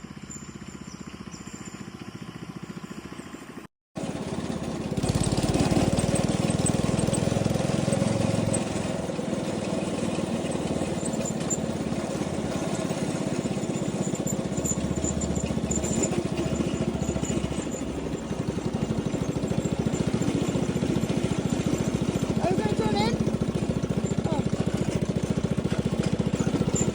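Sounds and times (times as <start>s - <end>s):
go-kart engine running: 0.0s - 26.9s.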